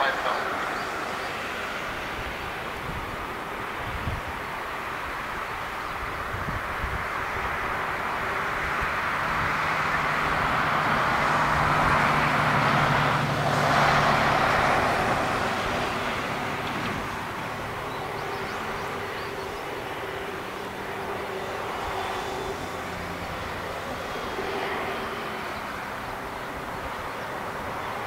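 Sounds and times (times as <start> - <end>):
jet engine roar at takeoff: 0.0 - 28.0.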